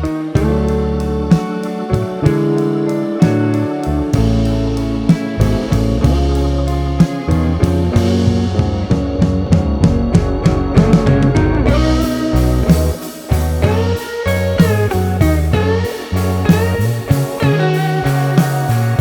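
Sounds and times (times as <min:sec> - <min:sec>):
guitar with bending sliding notes: 0:00.0 - 0:19.0
steady bass line: 0:00.0 - 0:19.0.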